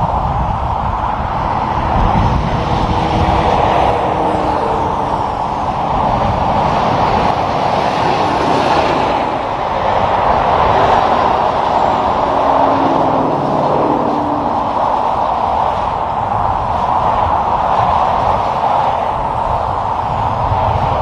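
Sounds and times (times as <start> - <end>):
vehicles passing at speed: 0.0 - 21.0.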